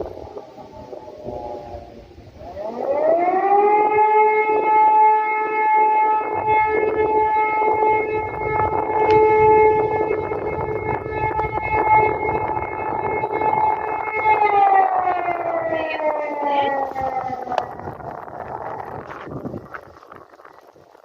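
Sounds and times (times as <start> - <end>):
siren wailing: 0.0 - 20.9.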